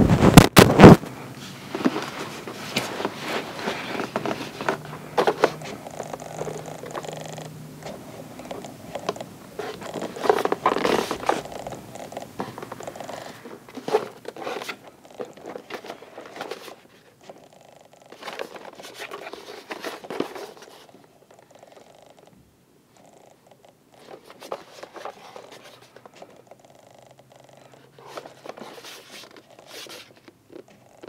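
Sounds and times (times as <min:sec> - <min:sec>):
fingers scraping cardboard box: 0:01.8 - 0:22.3, 0:24.0 - 0:31.0.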